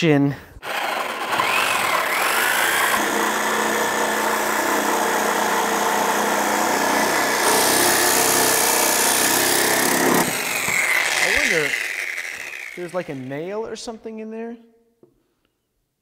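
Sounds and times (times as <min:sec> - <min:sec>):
reciprocating saw cutting wood: 0:00.6 - 0:13.6.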